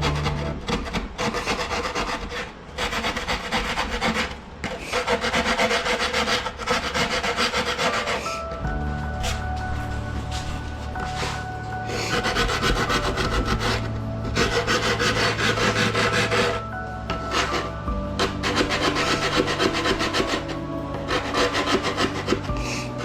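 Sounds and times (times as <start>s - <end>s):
hand tool rasping: 0.0s - 8.6s, 10.2s - 23.0s.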